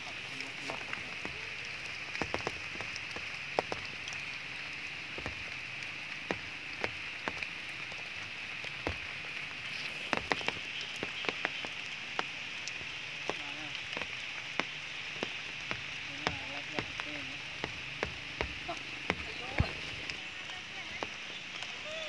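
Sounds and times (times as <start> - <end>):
sharp raindrop hits: 0.0 - 22.0
steady rain falling: 0.0 - 22.0.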